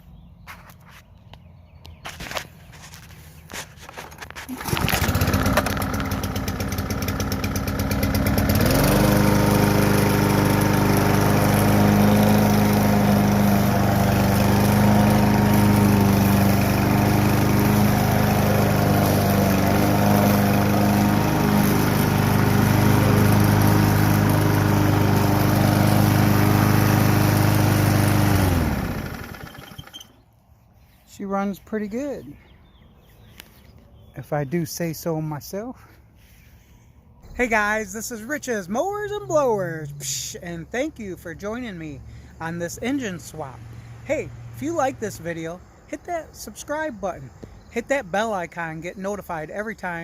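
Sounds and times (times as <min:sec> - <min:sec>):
lawn mower engine pull-started: 0:02.0 - 0:30.3, 0:37.2 - 0:50.0.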